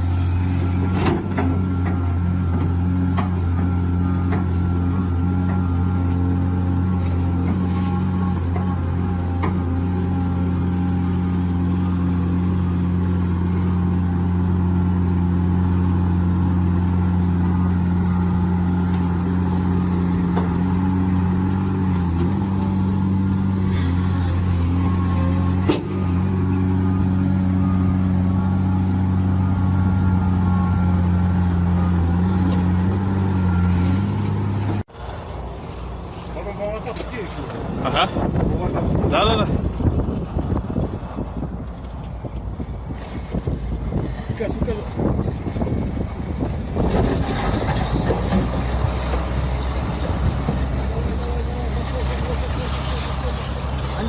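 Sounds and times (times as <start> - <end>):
heavy vehicle engine under load: 0.0 - 54.0.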